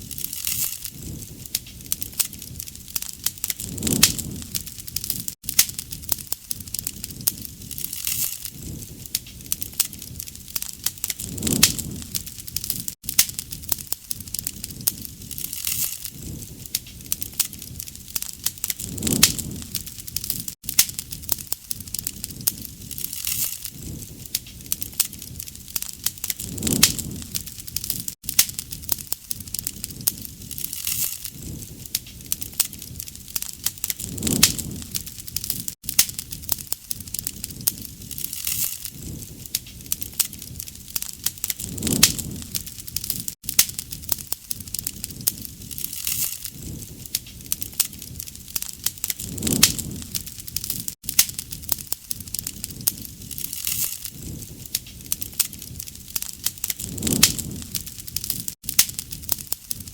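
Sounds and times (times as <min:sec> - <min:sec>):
rushing flames: 0:00.0 - 0:59.9
wood fire crackling and popping: 0:00.0 - 0:59.9.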